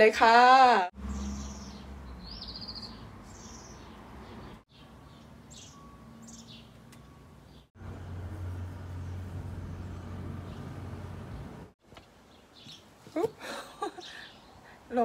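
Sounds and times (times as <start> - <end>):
small birds chirping: 1.0 - 8.2, 8.9 - 15.0.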